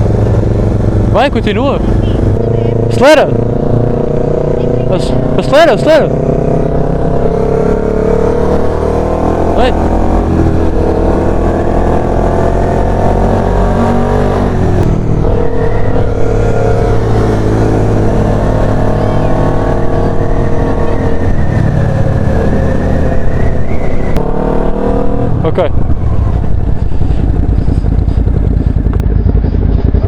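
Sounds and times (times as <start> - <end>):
motorcycle engine accelerating: 0.0 - 30.0
wind and road noise: 0.0 - 30.0.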